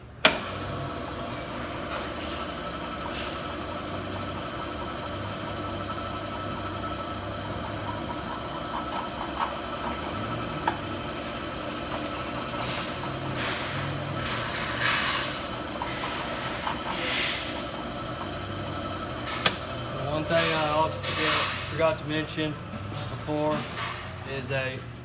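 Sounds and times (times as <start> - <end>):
drill press running: 0.0 - 25.0.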